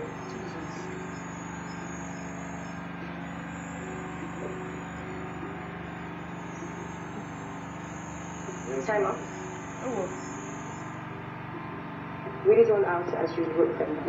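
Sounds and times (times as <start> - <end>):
crickets chirring: 0.0 - 11.5
low even hum: 0.0 - 14.0.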